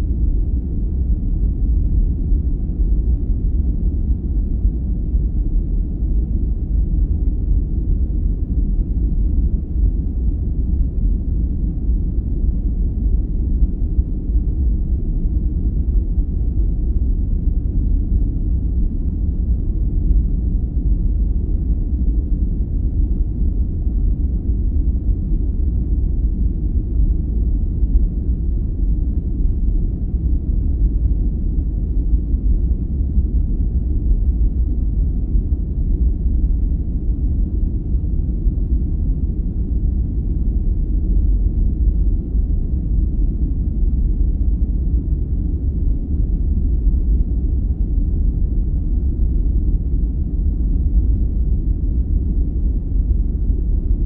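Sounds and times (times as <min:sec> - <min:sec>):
deep low rumble noise: 0:00.0 - 0:54.0.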